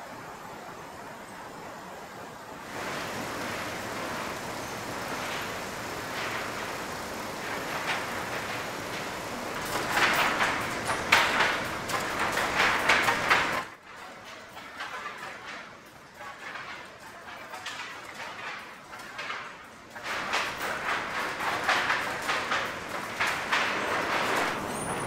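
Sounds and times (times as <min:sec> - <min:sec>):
wooden boards clattering: 0:02.7 - 0:24.7
chain conveyors rushing: 0:02.7 - 0:25.0.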